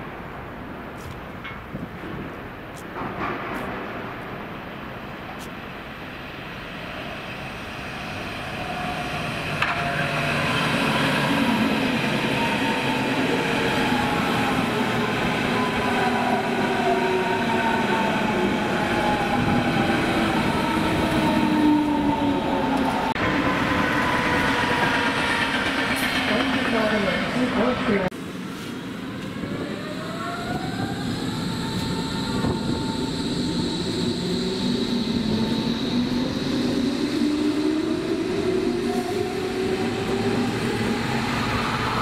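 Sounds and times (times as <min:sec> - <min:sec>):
wheels rumbling on rail: 0:00.3 - 0:42.0
electric locomotive passing: 0:02.0 - 0:42.0.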